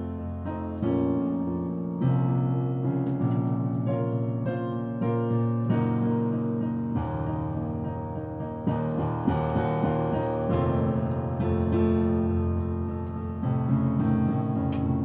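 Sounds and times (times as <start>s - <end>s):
keyboard playing chords and notes: 0.0s - 15.0s.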